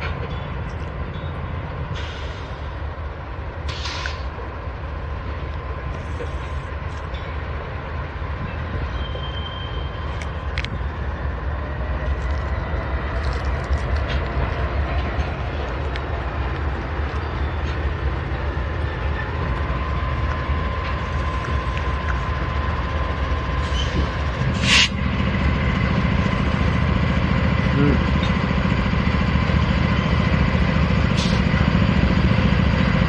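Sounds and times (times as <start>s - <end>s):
metallic clicks from train: 0.0s - 3.0s, 3.6s - 4.5s, 5.3s - 33.0s
diesel locomotive engines rumbling: 0.0s - 33.0s.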